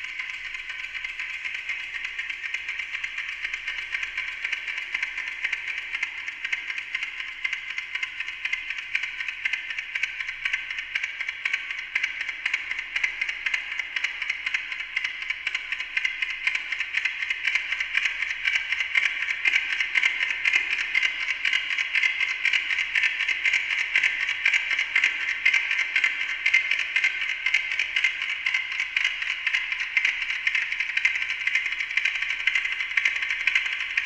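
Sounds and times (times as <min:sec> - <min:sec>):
clock ticking with echoing delay: 0:00.0 - 0:34.0.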